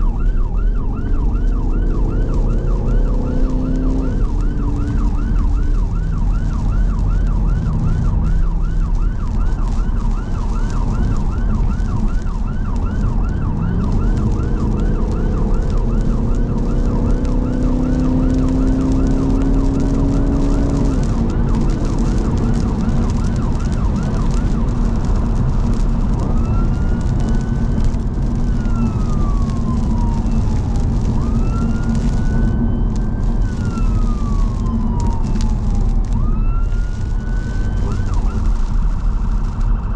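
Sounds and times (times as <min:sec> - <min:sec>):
road and tyre rumble: 0:00.0 - 0:39.9
siren yelping and wailing: 0:00.0 - 0:39.9
car engine accelerating: 0:00.8 - 0:08.4, 0:12.6 - 0:39.9.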